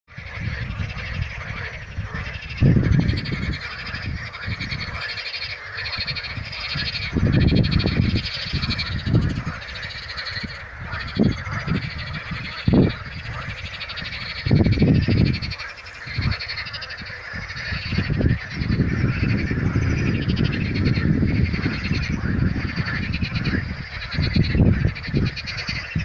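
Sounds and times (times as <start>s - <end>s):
frogs croaking in chorus: 0.1s - 26.0s.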